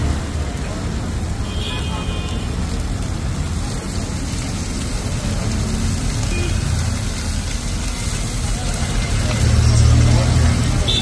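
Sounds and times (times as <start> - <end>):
fish sizzling on griddle: 0.0 - 11.0
low road traffic rumble: 0.0 - 11.0.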